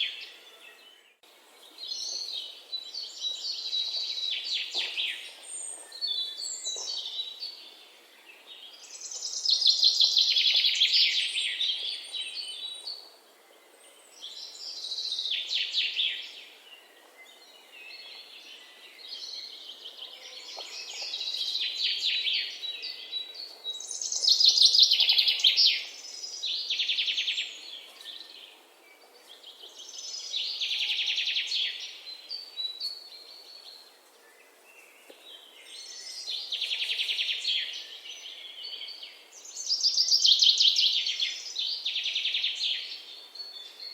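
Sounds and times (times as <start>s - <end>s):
faint background hiss: 0.0s - 43.9s.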